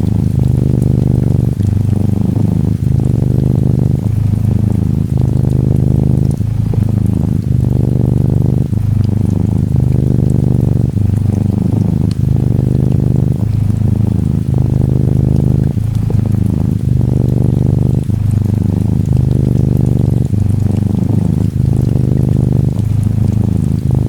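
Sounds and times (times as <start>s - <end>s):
gentle rain patter: 0.0s - 24.0s
kitten purring loudly: 0.0s - 24.0s.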